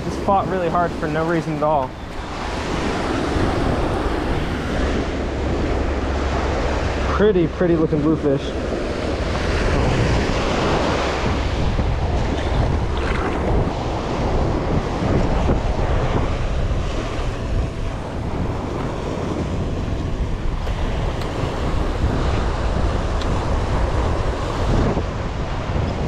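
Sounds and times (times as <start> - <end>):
surf breaking on sand: 0.0 - 26.0
wind buffeting microphone: 0.0 - 26.0.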